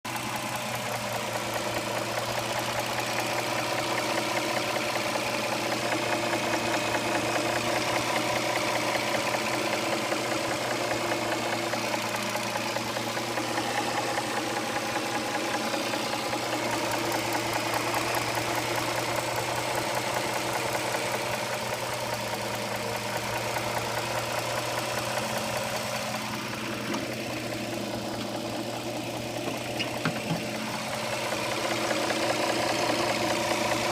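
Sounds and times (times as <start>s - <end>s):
car engine idling: 0.1s - 33.9s
engine knocking tick: 0.1s - 33.9s.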